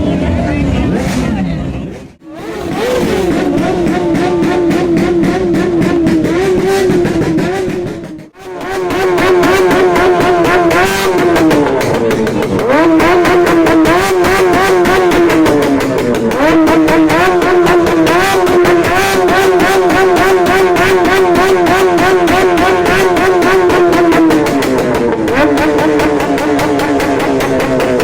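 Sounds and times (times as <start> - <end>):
motorcycle engines running loudly: 0.0 - 28.0.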